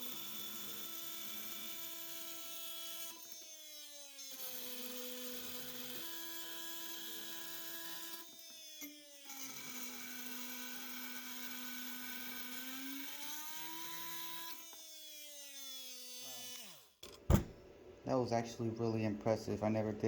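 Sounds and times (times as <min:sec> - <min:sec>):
oscillating multi-tool buzzing whine: 0:00.0 - 0:17.0.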